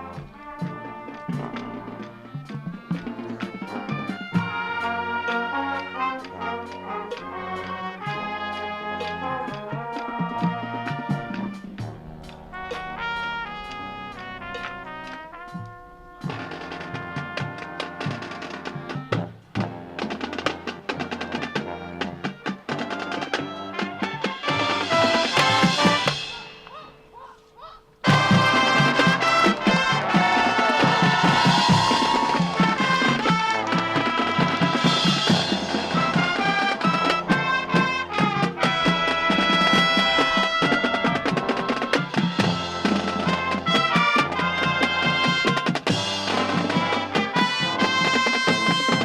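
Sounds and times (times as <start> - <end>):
marching band playing: 0.0 - 27.2, 28.0 - 49.0
quick drum strokes: 7.1 - 27.3, 28.0 - 49.0.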